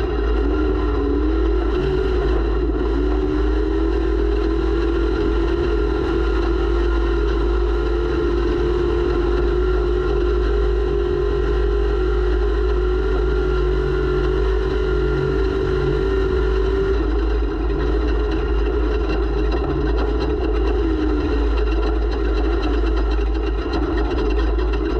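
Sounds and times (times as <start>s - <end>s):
race vehicle engine running hard: 0.0s - 24.9s.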